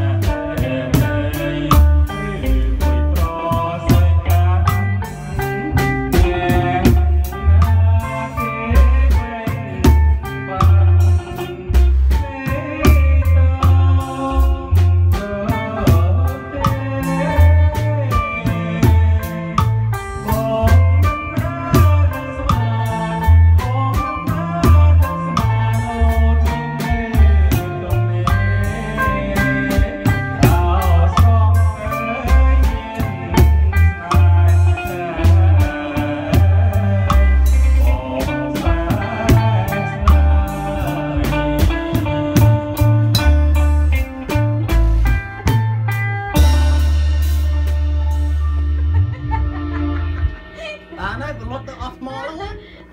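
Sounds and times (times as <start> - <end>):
man singing into a microphone: 0.0 - 43.4
bass guitar: 0.0 - 52.9
drum kit beat: 0.0 - 52.9
electric guitar: 0.0 - 52.9
keyboard: 0.0 - 52.9.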